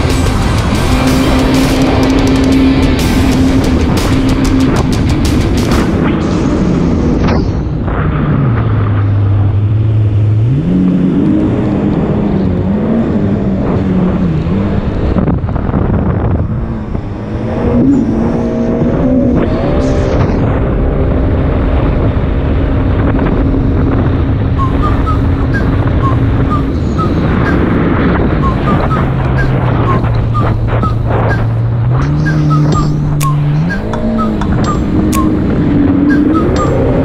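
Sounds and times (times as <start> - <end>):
jet ski engine running: 0.0 - 37.0
wind rush: 0.0 - 37.0.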